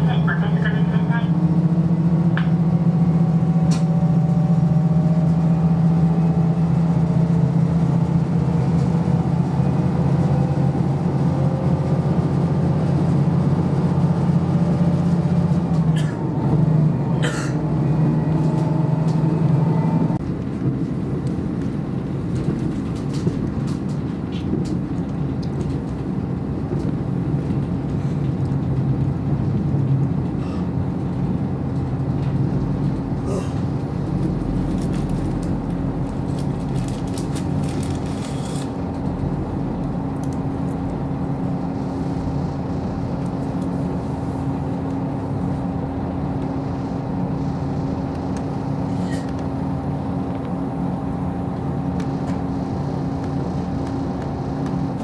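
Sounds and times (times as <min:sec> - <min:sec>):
diesel engine drone: 0:00.0 - 0:55.0
train wheels on rails: 0:00.0 - 0:55.0.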